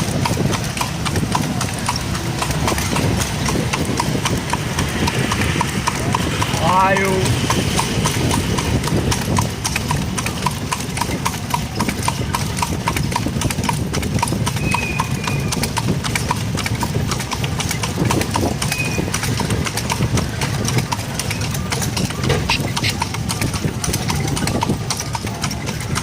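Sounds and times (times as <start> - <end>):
cart wheels rumbling: 0.0 - 26.0
horse hooves clip-clopping on road: 0.0 - 26.0.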